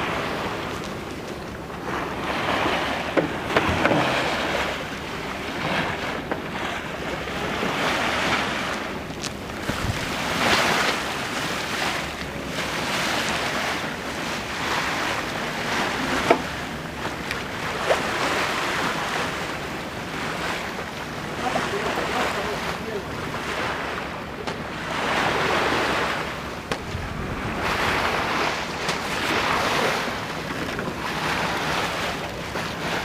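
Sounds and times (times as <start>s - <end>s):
water washing along hull: 0.0s - 33.0s
wind buffeting microphone: 0.0s - 33.0s.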